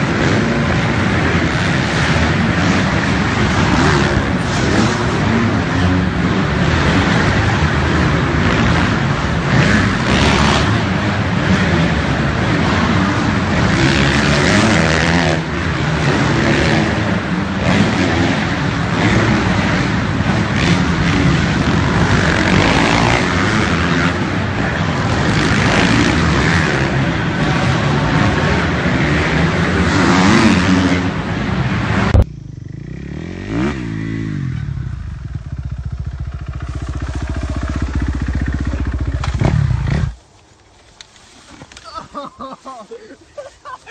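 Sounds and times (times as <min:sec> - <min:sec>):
single dirt bike engine: 0:00.0 - 0:40.2
dirt bike engines revving: 0:00.0 - 0:43.9.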